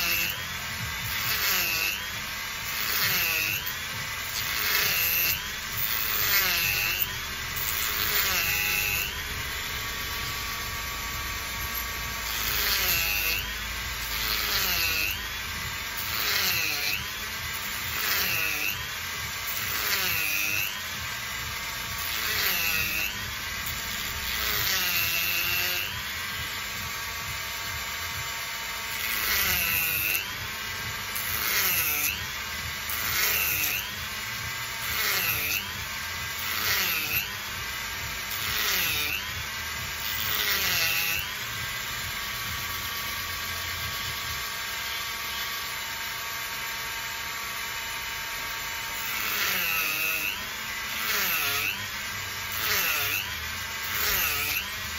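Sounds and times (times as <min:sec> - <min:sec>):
rotary tool motor whine: 0:00.0 - 0:54.9.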